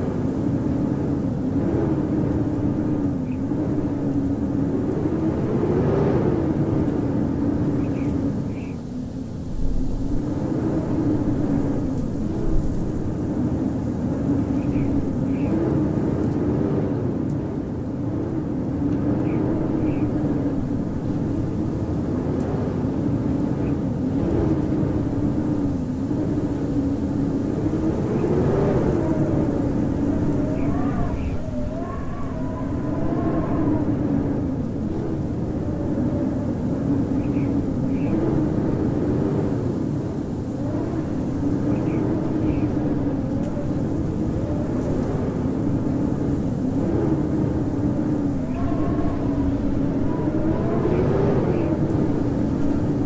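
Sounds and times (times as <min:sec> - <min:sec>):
howling blizzard wind: 0:00.0 - 0:53.0.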